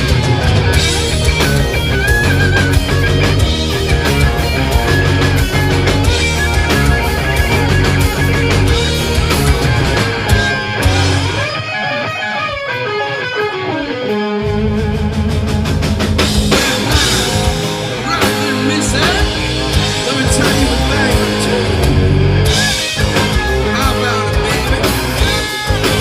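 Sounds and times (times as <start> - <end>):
falling guitar line: 0.0 - 26.0
rock band playing: 0.0 - 26.0.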